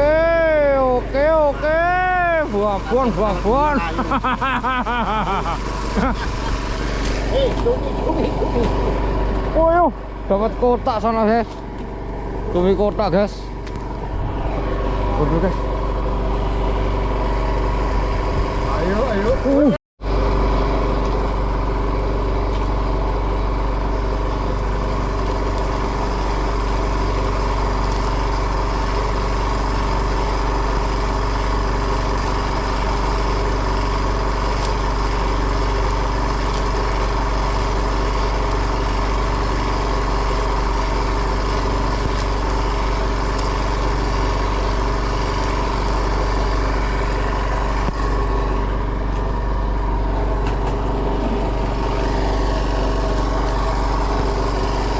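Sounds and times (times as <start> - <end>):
boat engine droning: 0.0 - 54.9.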